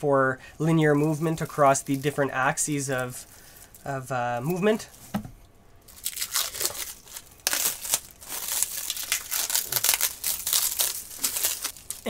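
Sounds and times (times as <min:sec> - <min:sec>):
plastic wrapping crinkling: 0:00.9 - 0:05.1, 0:05.8 - 0:12.0.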